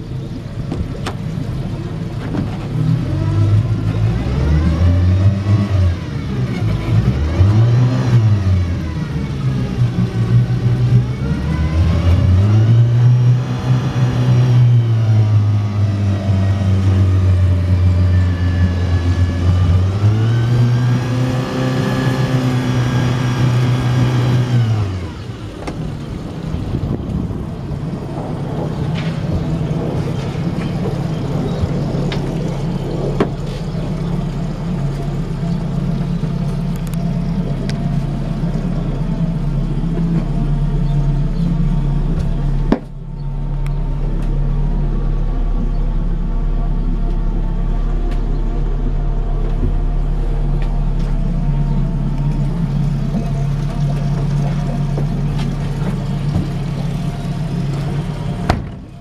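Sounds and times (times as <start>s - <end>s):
outboard motor idling: 0.0s - 59.0s.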